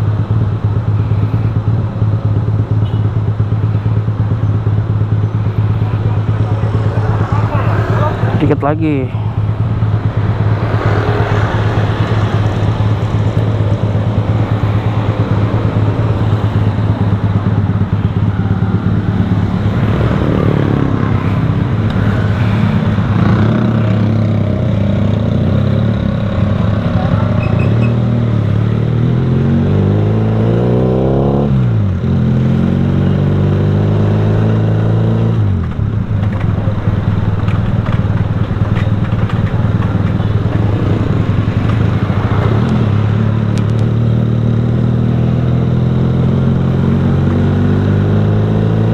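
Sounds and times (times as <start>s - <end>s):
motorcycle engine running: 0.0s - 48.9s
road and wind noise: 0.0s - 48.9s.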